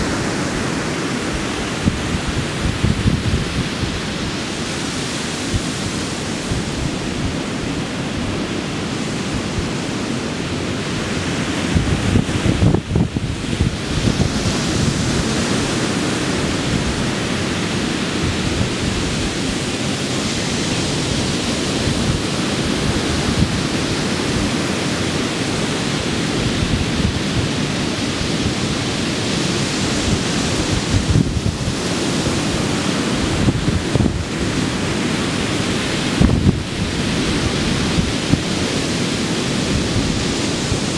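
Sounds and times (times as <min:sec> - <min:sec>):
surf breaking on beach: 0:00.0 - 0:40.9
wind buffeting microphone: 0:00.0 - 0:40.9.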